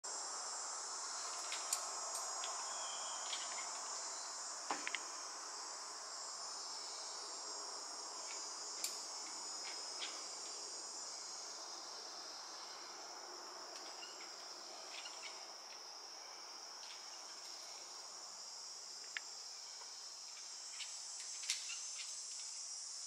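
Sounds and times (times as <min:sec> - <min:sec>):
high-pitched insect chorus: 0:00.1 - 0:23.0.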